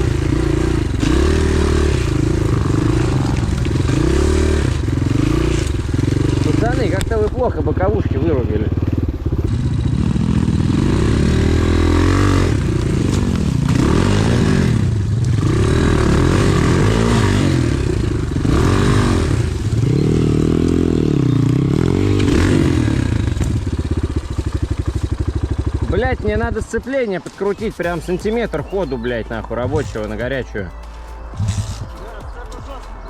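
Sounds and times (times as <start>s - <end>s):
pit bike engine revving: 0.0s - 26.6s, 31.3s - 33.0s.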